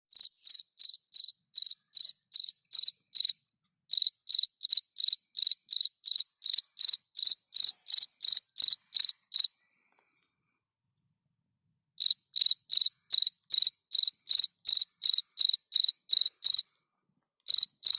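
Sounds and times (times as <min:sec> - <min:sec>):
cricket chirping: 0:00.1 - 0:17.9.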